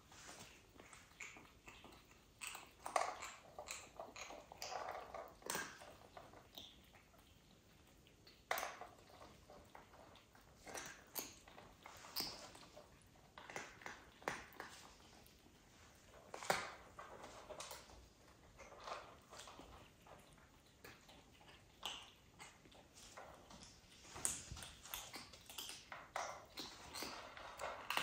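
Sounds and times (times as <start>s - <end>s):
cats crunching dry food: 0.0s - 28.0s.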